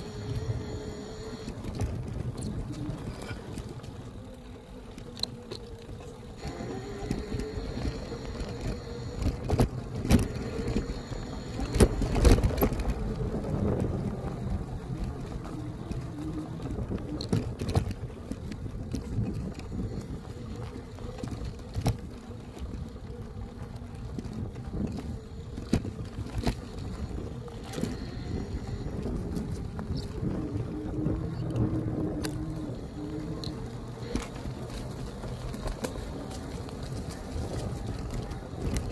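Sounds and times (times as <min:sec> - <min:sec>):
bike rumbling over rough ground: 0:00.0 - 0:38.9
faint electric motor whine: 0:00.0 - 0:38.9.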